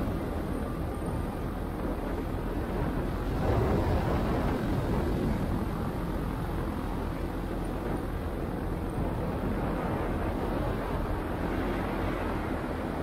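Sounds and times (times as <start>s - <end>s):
wind rush: 0.0s - 13.0s.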